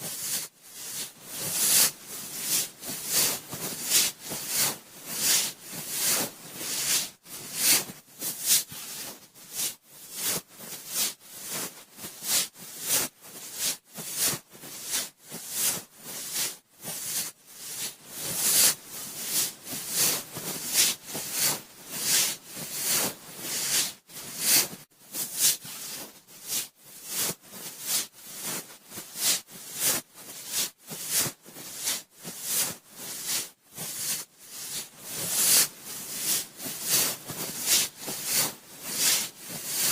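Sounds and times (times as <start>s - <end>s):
cotton swab rustling in microphone: 0.0s - 39.9s.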